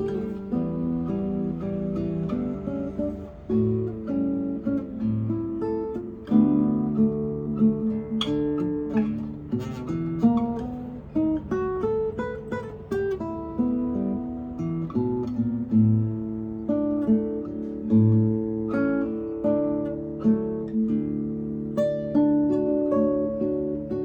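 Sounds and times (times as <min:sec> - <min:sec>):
acoustic guitar melody: 0:00.0 - 0:24.0.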